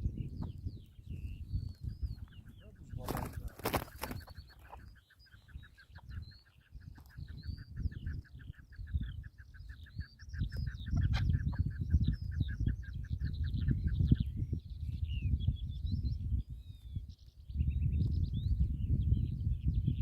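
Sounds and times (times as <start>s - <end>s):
partridges calling: 0.0s - 19.8s
wind rumbling on microphone: 0.0s - 20.0s.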